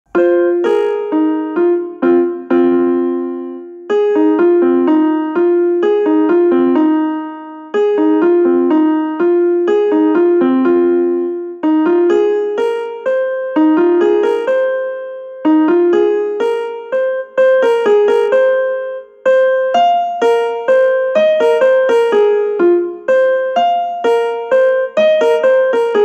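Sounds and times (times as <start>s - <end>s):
piano-like ringtone melody: 0.1s - 26.0s.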